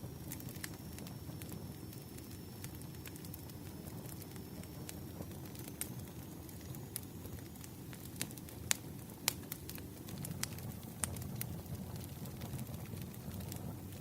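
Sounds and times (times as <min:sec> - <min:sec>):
campfire crackling and popping: 0:00.0 - 0:14.0
low rumble of burning fire: 0:00.0 - 0:14.0.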